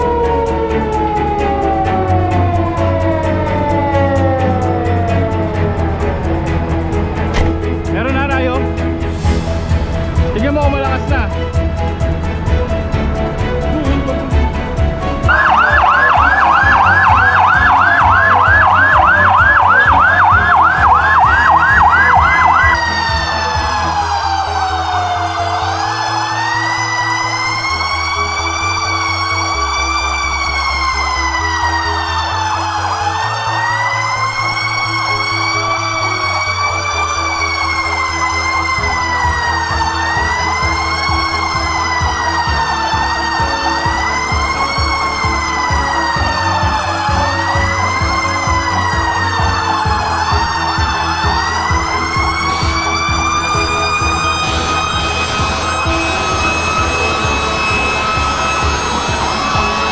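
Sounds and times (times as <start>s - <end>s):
emergency siren yelping and wailing: 0.0s - 9.8s, 15.2s - 59.9s.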